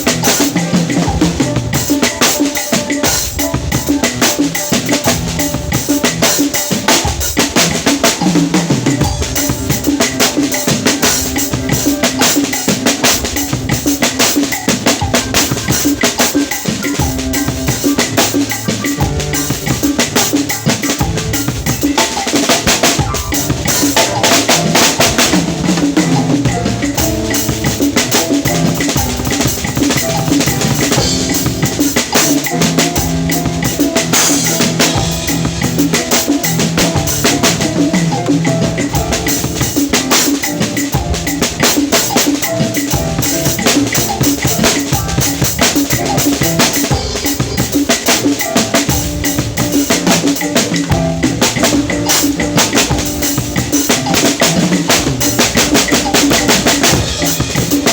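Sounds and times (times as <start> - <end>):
cymbals washing: 0.0 - 57.9
fast drum strokes: 0.0 - 57.9.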